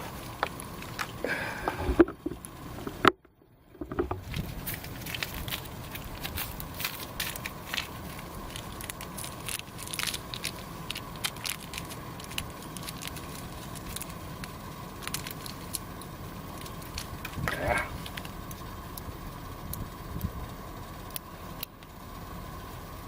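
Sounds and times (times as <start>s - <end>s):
wood fire crackling and popping: 0.0s - 2.8s, 4.2s - 22.1s.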